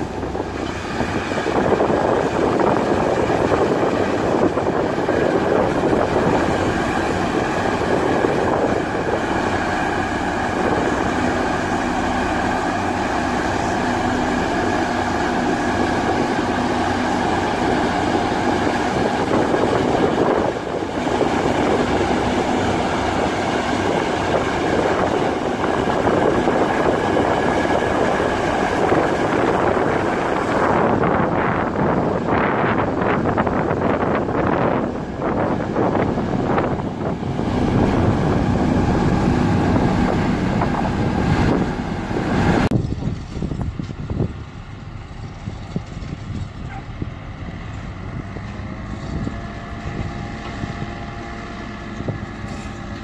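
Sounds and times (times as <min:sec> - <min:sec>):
road rollers rumbling: 0:00.0 - 0:53.0.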